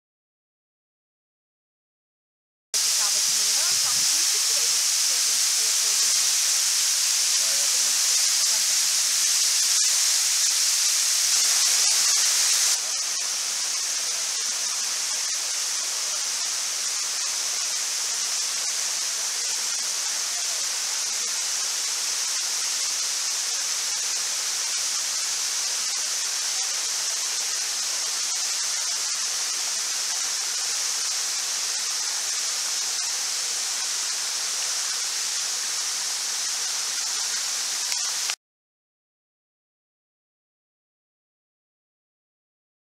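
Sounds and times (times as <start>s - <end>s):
waterfall rushing: 2.8s - 38.4s.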